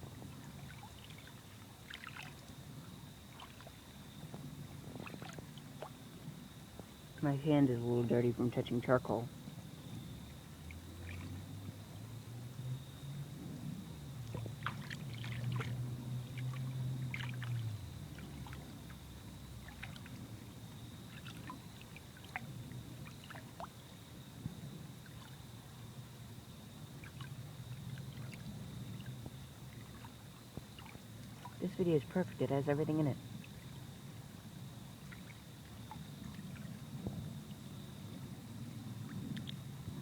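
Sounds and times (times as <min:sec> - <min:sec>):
crickets chirping: 0:00.0 - 0:40.0
low steady hum: 0:00.0 - 0:40.0.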